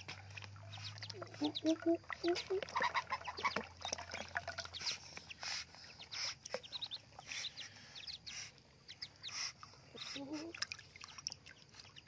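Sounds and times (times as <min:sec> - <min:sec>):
ducklings peeping: 0:00.1 - 0:12.0.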